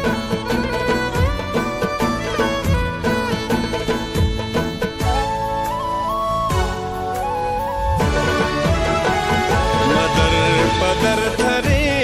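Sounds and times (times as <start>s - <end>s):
instrumental melodic lines: 0.0s - 12.0s.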